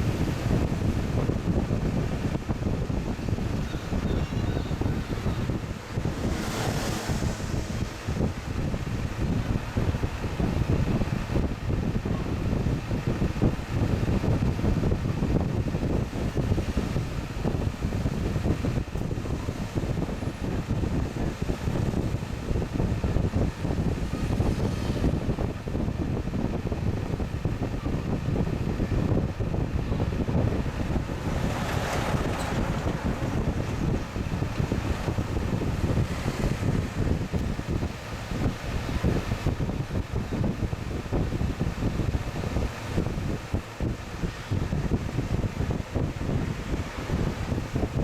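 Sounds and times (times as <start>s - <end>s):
air conditioner fan blowing: 0.0s - 48.0s
wind buffeting microphone: 0.0s - 48.0s.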